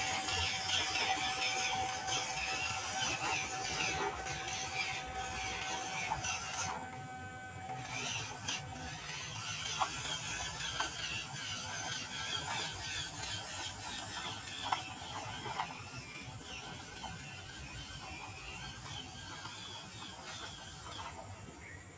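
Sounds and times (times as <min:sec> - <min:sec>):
toy truck motor whirring: 0:00.0 - 0:21.9.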